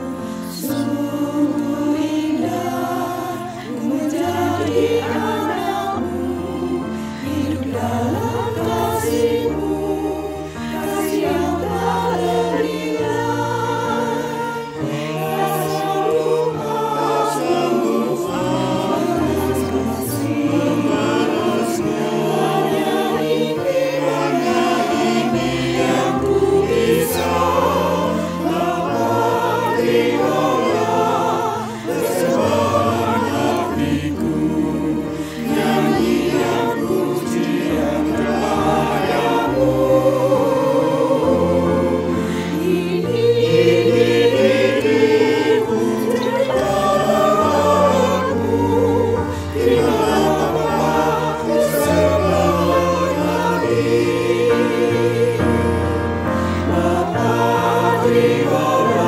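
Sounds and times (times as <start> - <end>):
choir singing a hymn: 0.0 - 59.0
instrumental accompaniment: 0.0 - 59.0.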